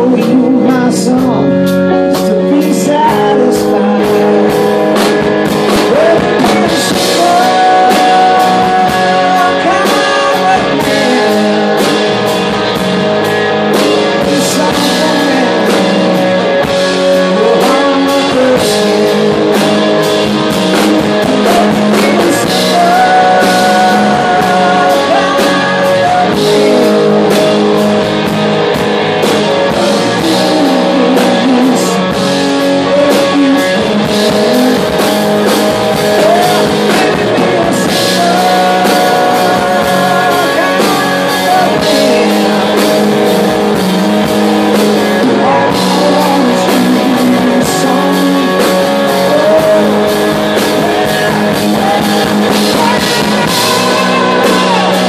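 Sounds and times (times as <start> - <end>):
man singing: 0.0 - 12.3, 13.8 - 28.2, 29.5 - 55.0
drums: 0.0 - 55.0
electric guitar strummed: 0.0 - 55.0.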